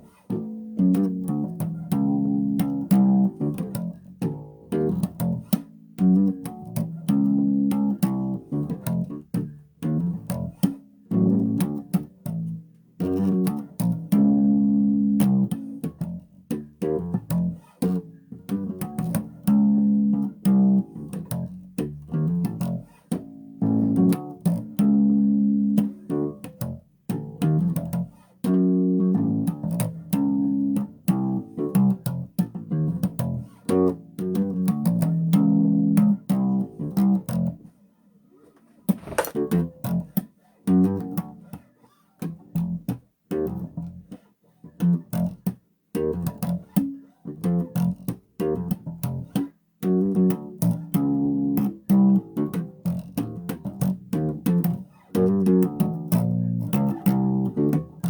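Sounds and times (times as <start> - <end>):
bass guitar plucked notes: 0.0 - 37.6, 39.0 - 41.6, 42.2 - 44.1, 44.7 - 58.0.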